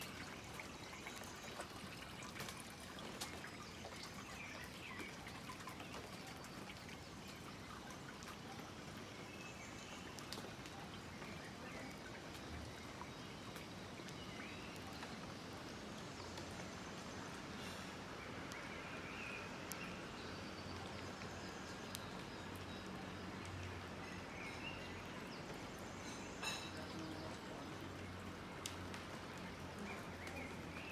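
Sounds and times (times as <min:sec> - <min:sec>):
drips pattering on surfaces: 0:00.0 - 0:30.9
steady rain falling: 0:00.0 - 0:30.9.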